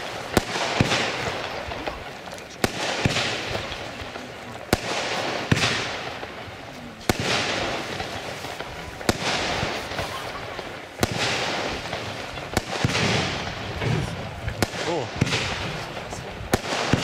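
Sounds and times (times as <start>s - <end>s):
firework bangs: 0.0s - 17.0s
hissing crackle of stars: 0.0s - 17.0s.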